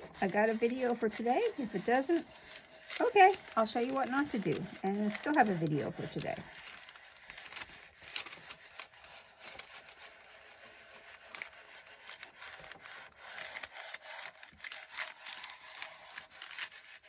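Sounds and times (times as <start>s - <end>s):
iron swishing over paper: 0.0s - 17.0s.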